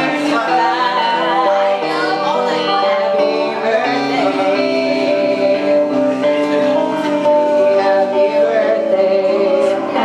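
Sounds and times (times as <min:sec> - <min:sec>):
acoustic guitar playing: 0:00.0 - 0:10.0
person singing: 0:00.0 - 0:10.0.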